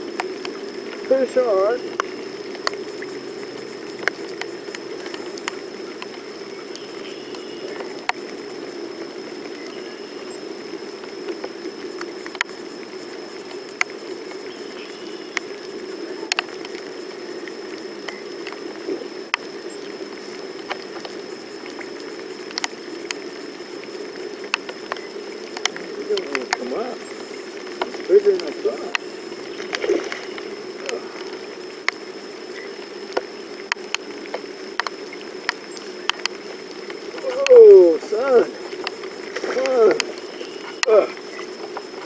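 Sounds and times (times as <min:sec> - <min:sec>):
rain hissing on river: 0:00.0 - 0:42.0
raindrops ticking on boat: 0:00.0 - 0:42.0.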